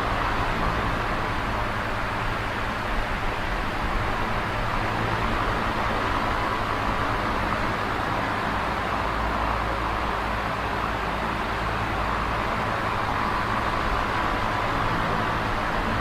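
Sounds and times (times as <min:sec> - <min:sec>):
box fan running: 0:00.0 - 0:16.0.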